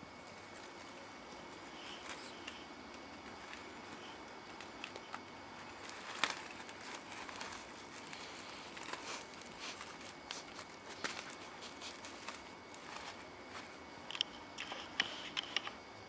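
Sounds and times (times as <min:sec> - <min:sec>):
straw hat rustling and crackling: 0:00.0 - 0:15.4.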